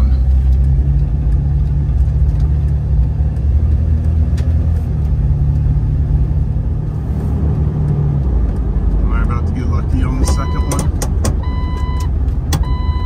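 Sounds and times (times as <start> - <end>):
engine and road noise drone: 0.0 - 13.0.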